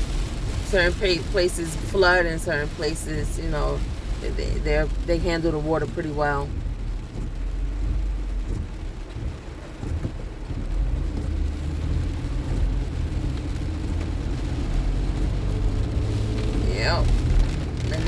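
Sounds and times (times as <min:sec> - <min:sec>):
car engine and tyre rumble: 0:00.0 - 0:18.0
rain hissing on wet road: 0:00.0 - 0:18.0.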